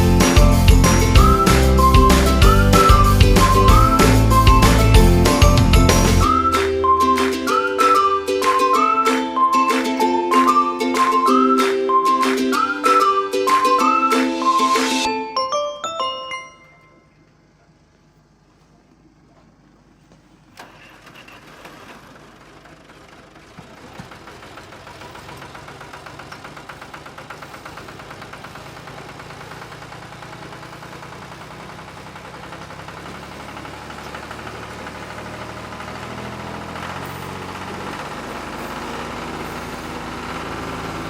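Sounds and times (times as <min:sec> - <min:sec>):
engine starting and running: 0:00.0 - 0:15.1, 0:20.2 - 0:41.0.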